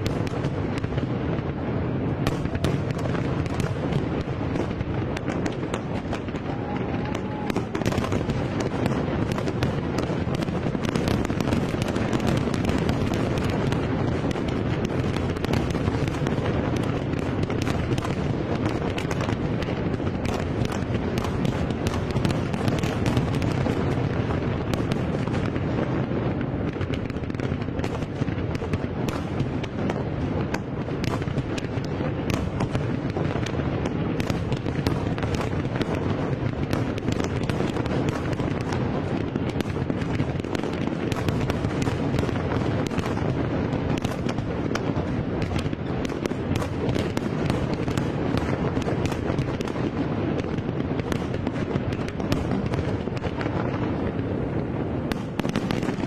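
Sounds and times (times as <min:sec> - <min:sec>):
fireworks bursts: 0:00.0 - 0:56.0
fireworks cracks and crackles: 0:00.0 - 0:56.0.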